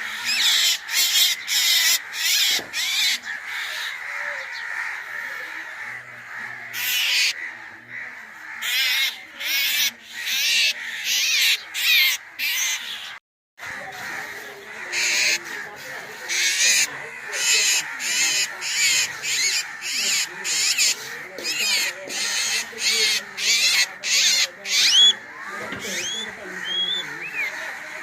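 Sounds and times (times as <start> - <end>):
crows cawing: 0.0 - 28.0.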